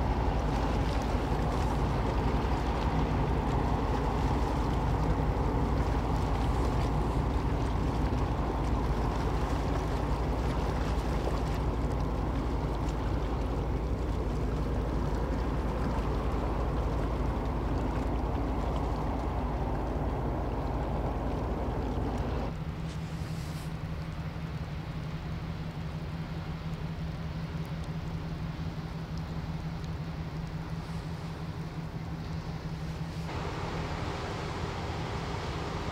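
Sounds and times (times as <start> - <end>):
low hum: 0.0 - 35.9
ship engine drone: 0.0 - 35.9
water noise: 0.0 - 35.9.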